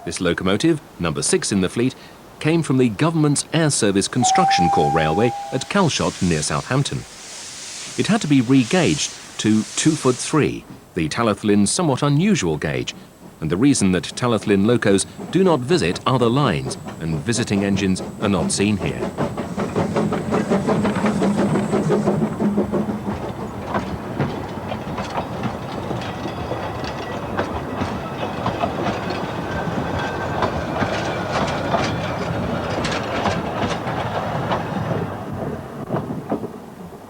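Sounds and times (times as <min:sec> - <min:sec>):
train wheels clicking over rail joints: 0:05.7 - 0:37.0.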